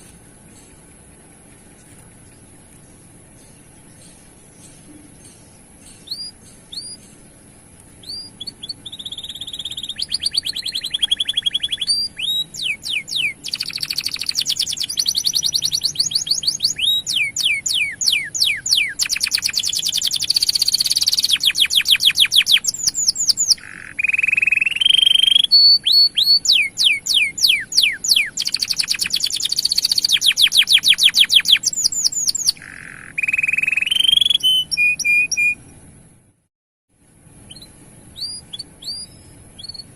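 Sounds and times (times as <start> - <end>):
canary singing trills: 0.0 - 35.8, 37.4 - 39.9.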